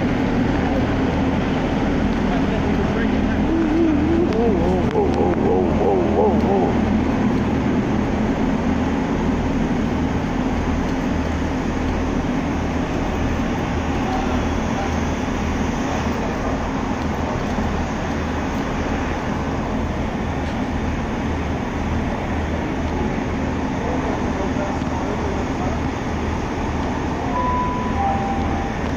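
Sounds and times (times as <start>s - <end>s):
train engines idling: 0.0s - 28.9s.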